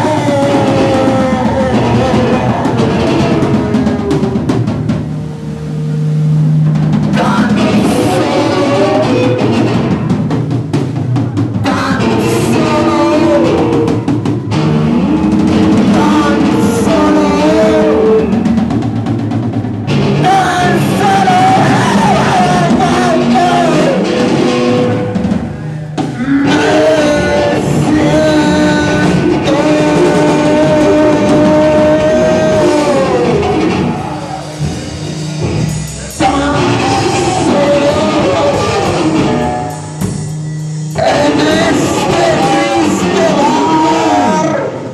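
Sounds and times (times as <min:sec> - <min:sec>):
loud live band music: 0:00.0 - 0:44.9.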